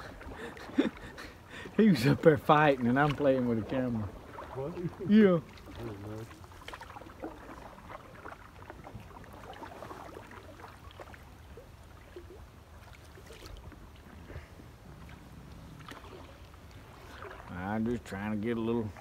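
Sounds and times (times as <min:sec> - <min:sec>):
paddle splashes and drips: 0:00.0 - 0:19.0.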